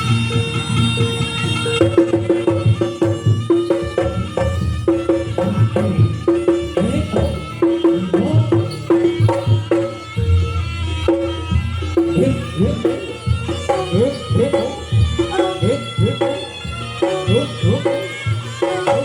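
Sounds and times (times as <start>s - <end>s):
steady drumming: 0.0s - 19.0s
tuned percussion strikes: 0.0s - 19.0s.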